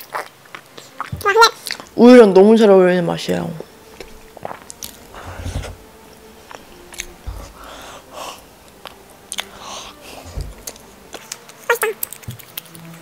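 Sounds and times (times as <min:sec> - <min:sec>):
person chewing food: 0:00.0 - 0:01.9, 0:03.9 - 0:13.0.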